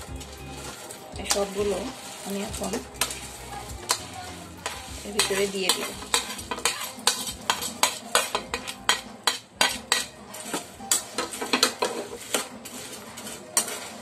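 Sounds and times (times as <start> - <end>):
spoon scraping a metal pot: 0.0 - 14.0.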